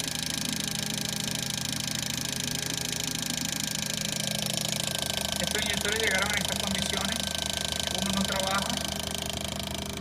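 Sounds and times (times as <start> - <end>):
rapid fuel injector clicks: 0.0 - 10.0
steady machine hum: 0.0 - 10.0.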